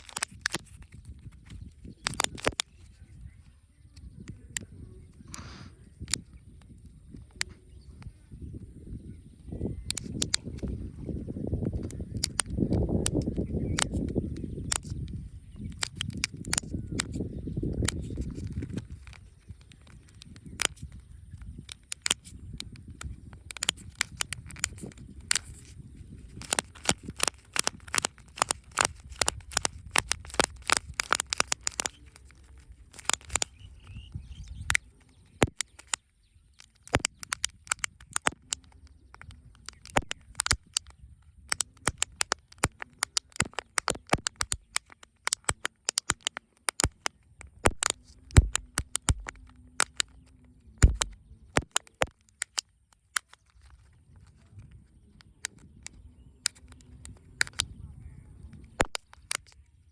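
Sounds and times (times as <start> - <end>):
plastic packaging clicks and crackles: 0.0 - 4.7, 9.8 - 57.8, 58.4 - 59.9.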